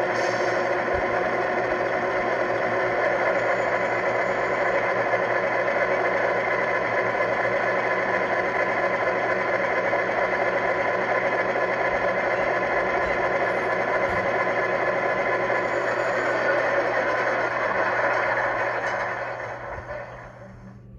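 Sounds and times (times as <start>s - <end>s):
diesel locomotive engine sound: 0.0s - 20.9s.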